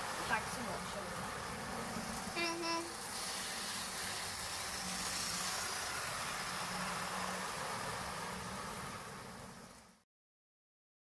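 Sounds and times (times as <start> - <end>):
hiss: 0.0 - 10.0
model trains whirring on track: 0.0 - 10.0.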